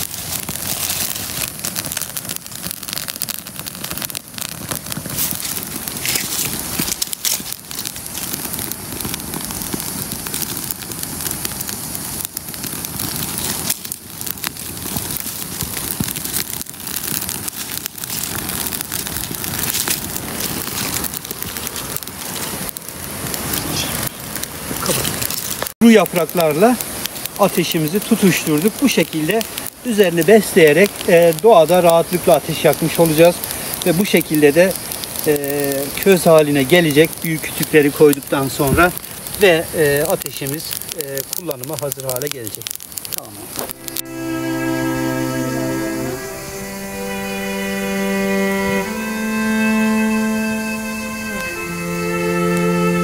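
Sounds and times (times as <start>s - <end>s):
campfire crackling and snapping: 0.0s - 53.0s.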